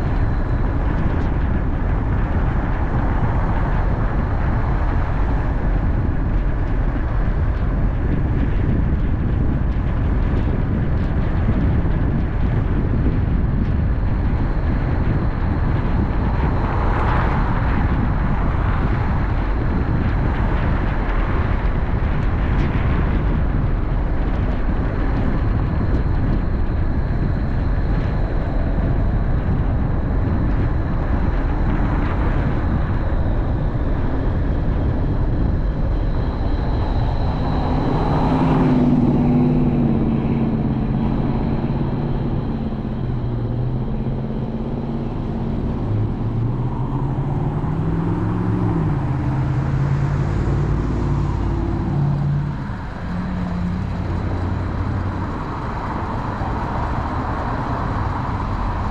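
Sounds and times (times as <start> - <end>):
engine hum: 0.0 - 58.9
tyre and road noise: 0.0 - 58.9.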